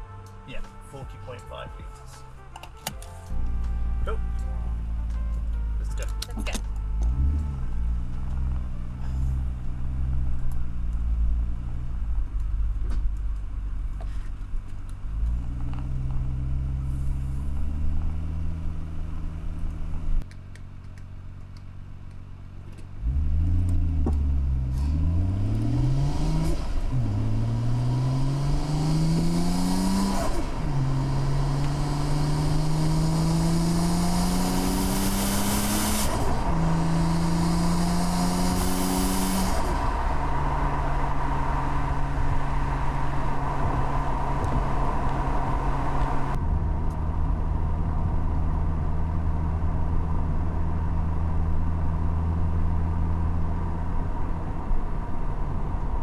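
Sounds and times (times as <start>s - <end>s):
road and wind noise: 0.0s - 56.0s
car engine accelerating: 3.2s - 56.0s.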